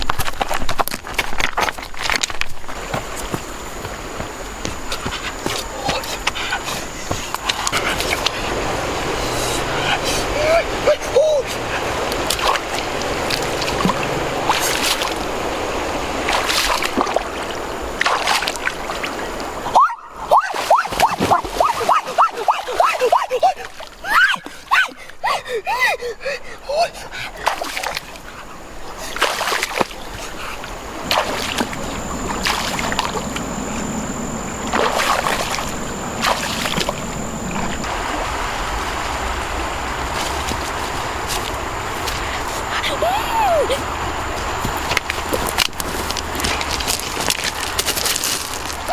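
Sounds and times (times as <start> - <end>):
water splashing: 0.0 - 24.7, 27.1 - 48.9
running water: 0.0 - 25.5, 26.8 - 48.9.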